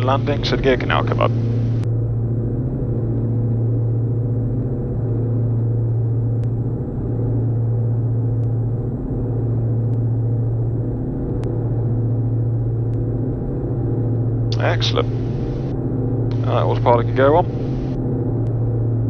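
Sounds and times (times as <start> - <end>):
aircraft engines droning: 0.0 - 19.0.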